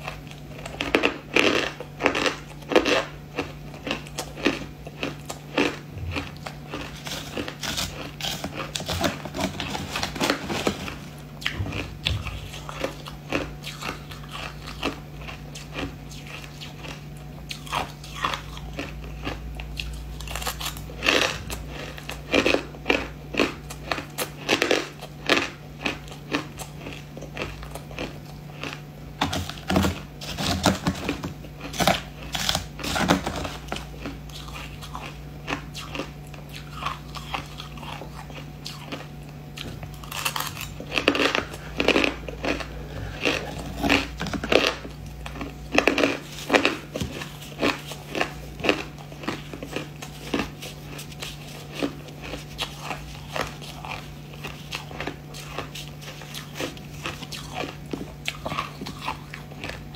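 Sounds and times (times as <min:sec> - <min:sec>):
faint low hum: 0:00.0 - 0:59.9
ice crunching in mouth: 0:00.0 - 0:59.9.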